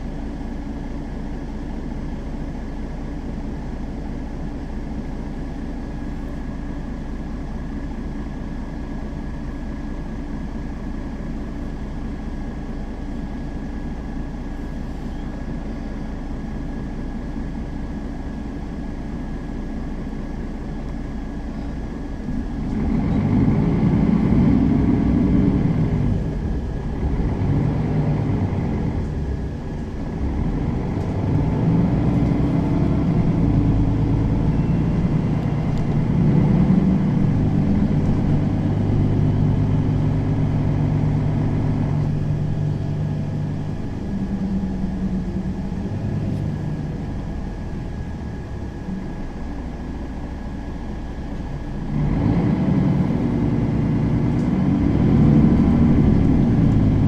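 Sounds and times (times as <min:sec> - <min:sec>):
city bus engine running: 0:00.0 - 0:57.0.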